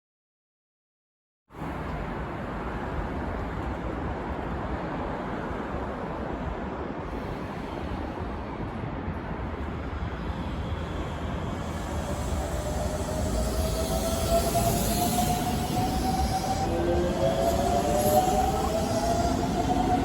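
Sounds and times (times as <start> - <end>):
electric train rumbling at platform: 1.6 - 20.0.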